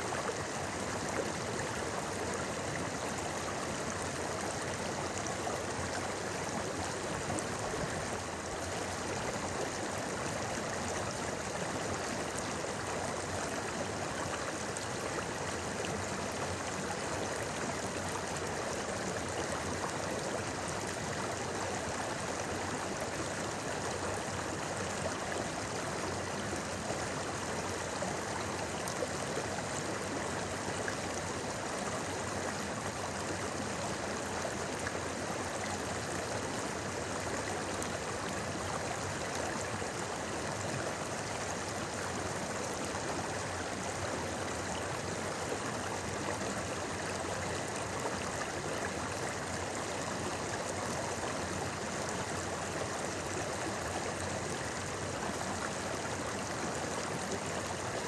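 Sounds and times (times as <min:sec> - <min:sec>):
river babbling over stones: 0:00.0 - 0:58.0.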